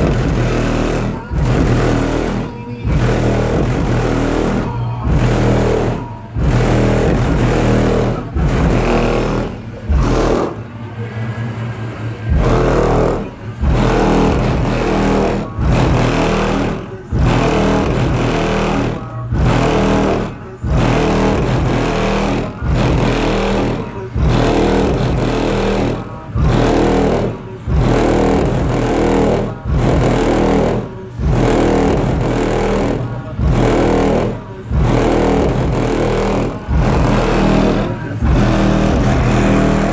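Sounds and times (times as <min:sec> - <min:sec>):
vehicle body rattling: 0:00.0 - 0:10.8, 0:12.3 - 0:39.9
loud bass-heavy music: 0:00.0 - 0:39.9.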